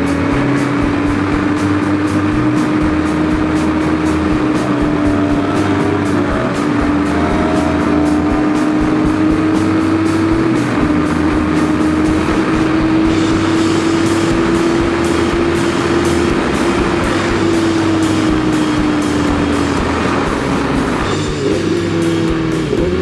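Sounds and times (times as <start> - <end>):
background music with beat: 0.0 - 23.0
motorcycle engine running: 0.0 - 23.0.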